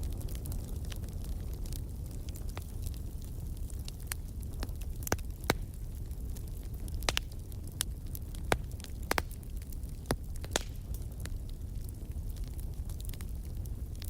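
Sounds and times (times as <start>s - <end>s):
fire crackles and pops: 0.0s - 14.0s
low rumble of flames: 0.0s - 14.0s.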